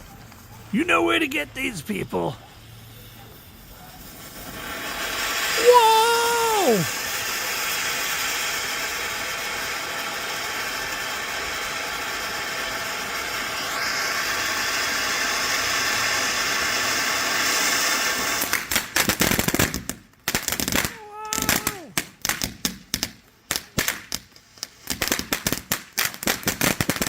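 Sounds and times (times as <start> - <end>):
firework crackling pops: 0.0 - 27.0
firework hissing: 0.0 - 27.0.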